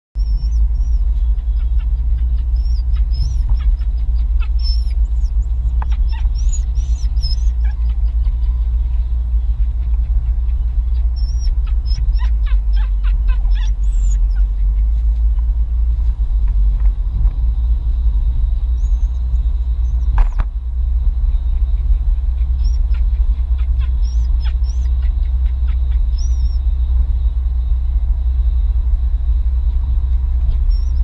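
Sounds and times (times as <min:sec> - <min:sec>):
car engine and tyre rumble: 0:00.2 - 0:31.0.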